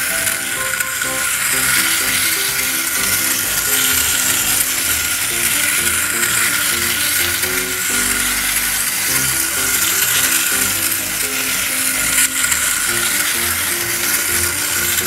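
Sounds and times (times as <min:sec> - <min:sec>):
simple background music: 0:00.0 - 0:15.0
wind-up toy tram whirring: 0:00.0 - 0:15.0.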